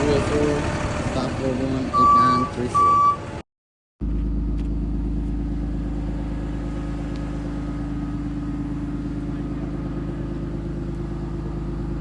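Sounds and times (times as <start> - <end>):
vehicle engine rumbling: 0.0 - 3.4, 4.0 - 12.0.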